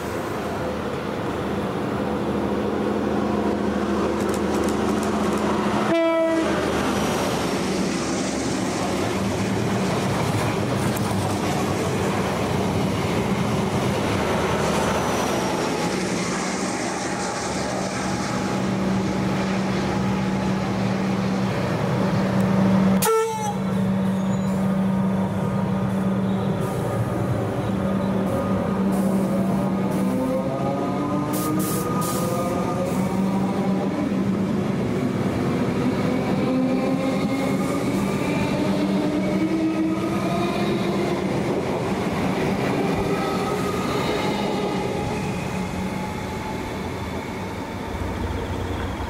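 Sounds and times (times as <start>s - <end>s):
electric train hum: 0.0s - 49.0s
wheels rumbling on rail: 0.0s - 49.0s.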